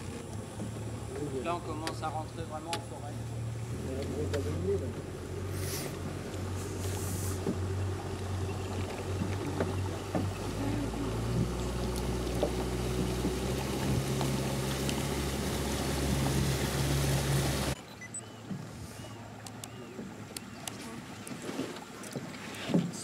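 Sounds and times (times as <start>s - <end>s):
outboard motor running: 0.0s - 23.0s
water rushing along hull: 0.0s - 23.0s.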